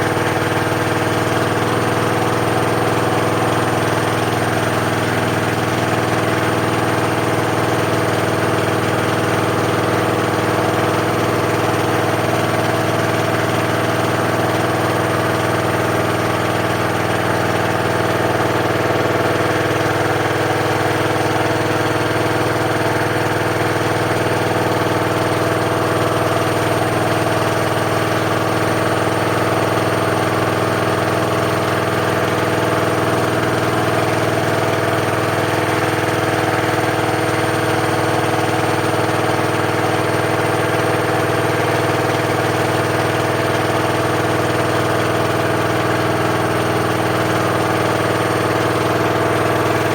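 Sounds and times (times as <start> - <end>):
washing machine spinning: 0.0 - 49.9.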